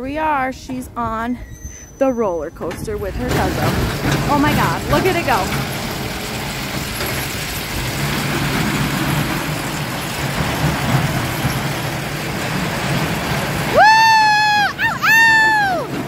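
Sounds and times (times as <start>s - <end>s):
roller coaster rolling on track: 0.0s - 16.0s.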